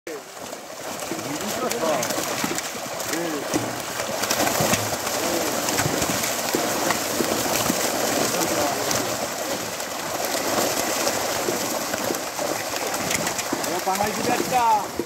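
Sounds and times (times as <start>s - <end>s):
fish splashing in net: 0.1s - 15.0s.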